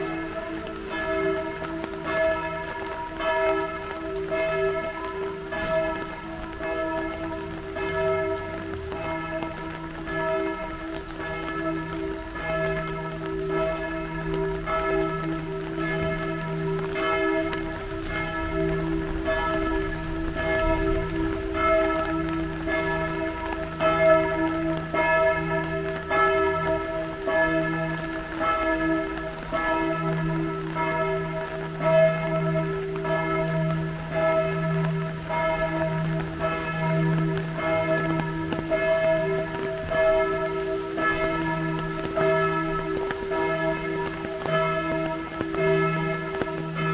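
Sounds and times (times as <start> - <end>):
church bells ringing: 0.0 - 46.9.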